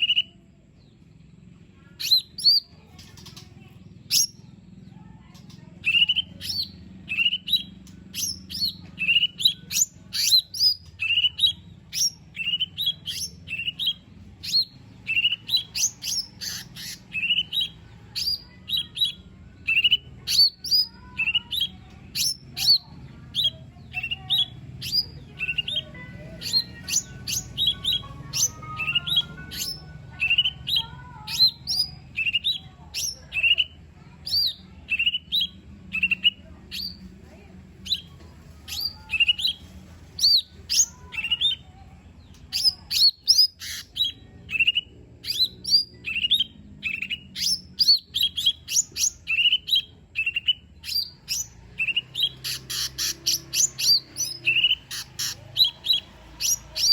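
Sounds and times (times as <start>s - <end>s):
bird rapid sharp chirps: 5.5s - 37.0s, 42.3s - 56.9s.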